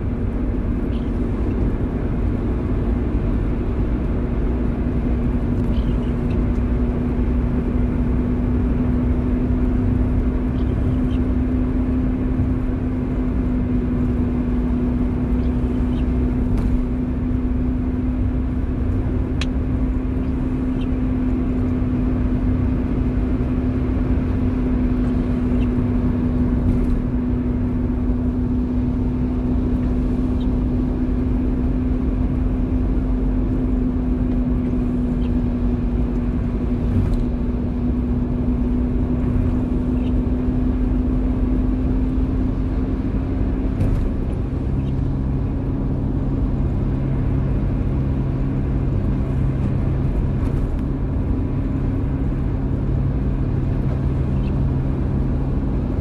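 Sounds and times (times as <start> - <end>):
car engine hum: 0.0 - 56.0
tyres rumbling on road: 0.0 - 56.0.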